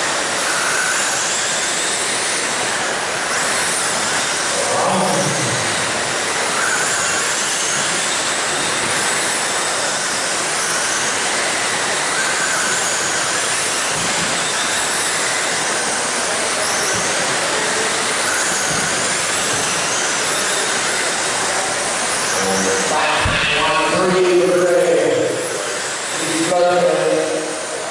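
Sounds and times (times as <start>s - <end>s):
electric motors whining: 0.0s - 27.9s.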